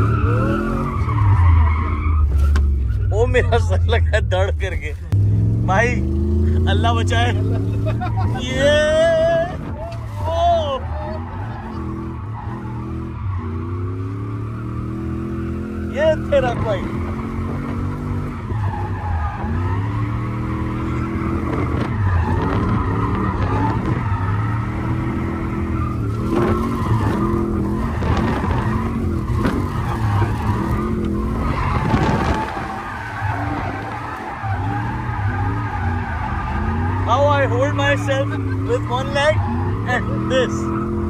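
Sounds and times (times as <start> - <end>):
car engine revving: 0.0 - 41.0
tyres skidding and squealing: 0.0 - 41.0.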